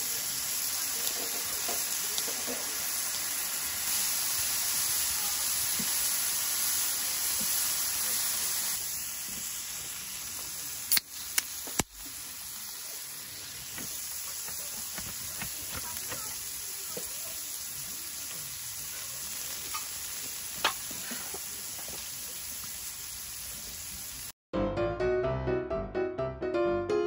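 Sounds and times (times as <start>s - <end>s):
food sizzling: 0.0s - 24.4s.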